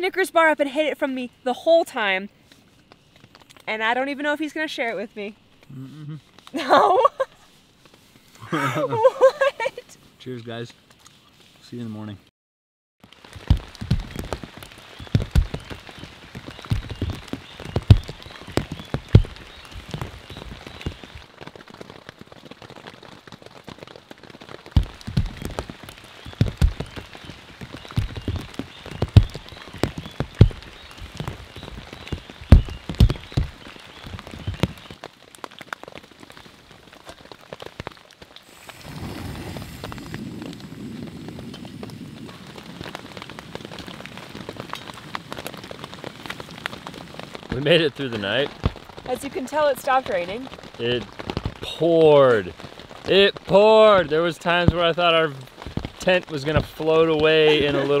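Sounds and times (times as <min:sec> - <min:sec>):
rain drops hitting tent fabric: 0:00.0 - 0:12.2, 0:13.0 - 0:58.0.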